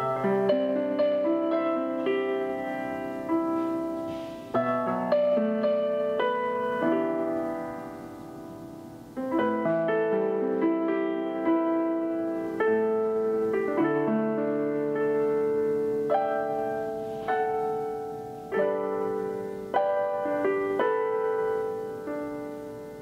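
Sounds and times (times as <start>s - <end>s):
piano chords and melody: 0.0s - 23.0s.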